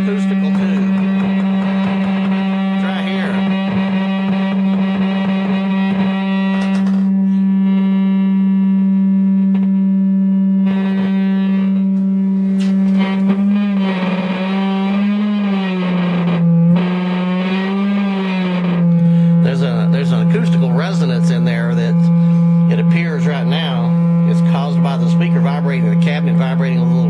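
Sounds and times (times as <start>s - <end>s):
harsh amplifier buzz: 0.0s - 27.0s
steady test tone through amplifier: 0.0s - 27.0s.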